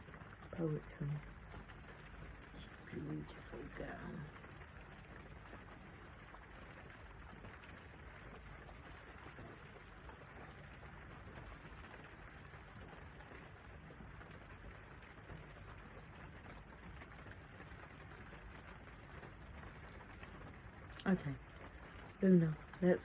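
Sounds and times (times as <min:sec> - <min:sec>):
faint rain falling: 0:00.0 - 0:23.0.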